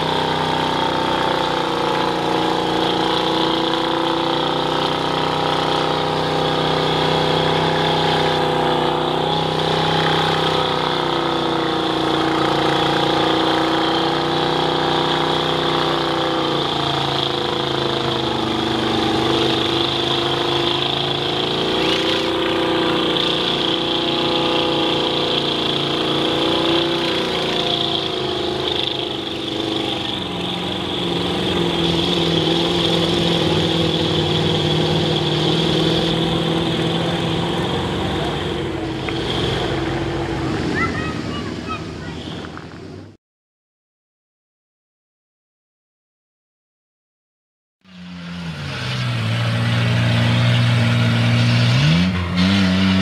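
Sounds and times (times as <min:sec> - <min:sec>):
truck churning through mud: 0:00.0 - 0:43.2, 0:47.9 - 0:53.0
truck engine revving: 0:00.0 - 0:43.2, 0:47.8 - 0:53.0.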